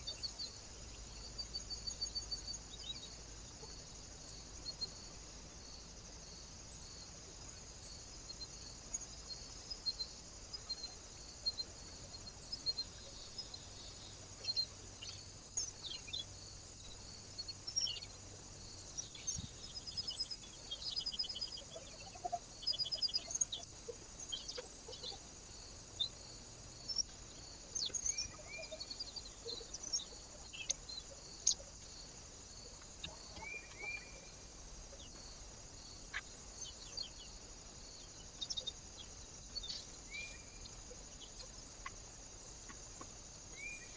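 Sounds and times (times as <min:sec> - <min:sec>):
small birds chirping and trilling: 0:00.0 - 0:43.9
steady high hiss: 0:00.0 - 0:43.9.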